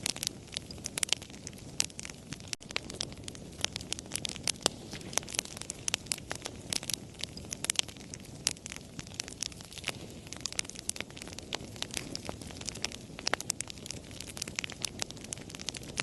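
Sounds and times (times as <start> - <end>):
campfire pops and snaps: 0.0 - 16.0
low rustle of burning: 0.0 - 16.0.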